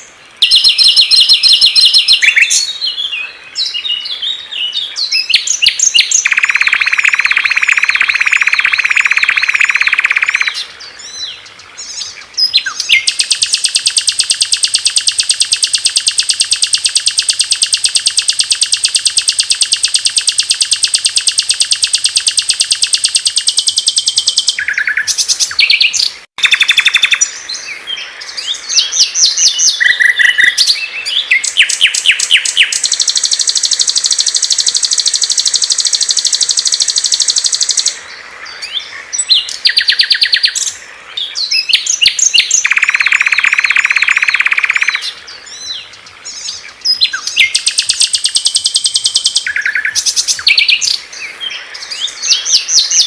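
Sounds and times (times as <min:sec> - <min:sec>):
songbird chirps: 0:00.0 - 0:53.0
songbird trills: 0:00.0 - 0:53.0.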